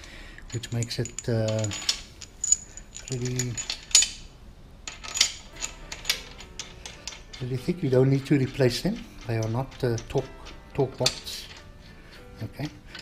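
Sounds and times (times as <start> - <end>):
metal bolts clinking: 0.4 - 13.0.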